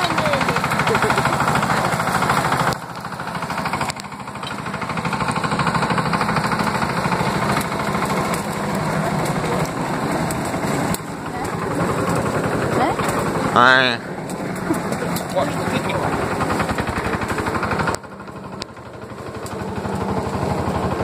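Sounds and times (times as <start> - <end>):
walking tractor engine running: 0.0 - 21.0.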